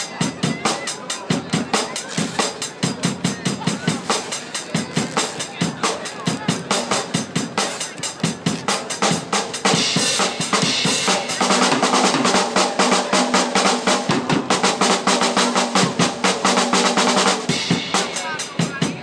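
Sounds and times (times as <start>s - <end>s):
drum kit played fast: 0.0s - 19.0s.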